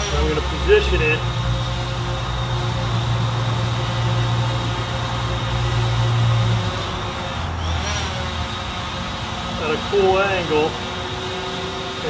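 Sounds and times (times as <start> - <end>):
drone propellers humming: 0.0 - 12.0.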